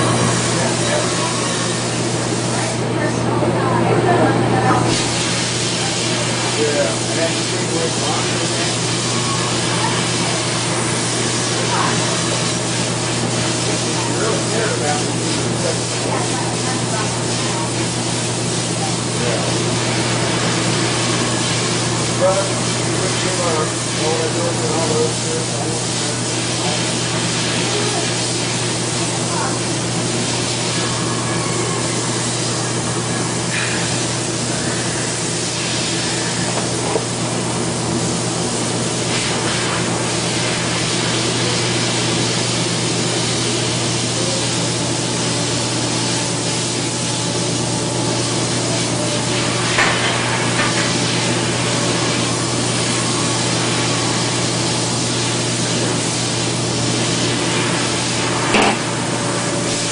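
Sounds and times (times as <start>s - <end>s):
welding arc hissing: 0.0s - 3.1s, 4.8s - 59.9s.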